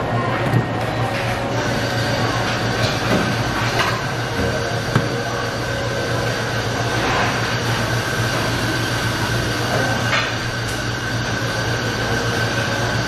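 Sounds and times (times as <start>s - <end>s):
kitchen machine hum: 0.0s - 13.0s.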